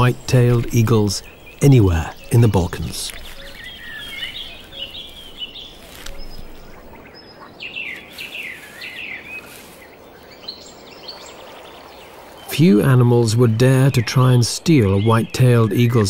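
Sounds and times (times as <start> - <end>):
birds chirping: 0.0 - 16.0
outdoor background hiss: 0.0 - 16.0.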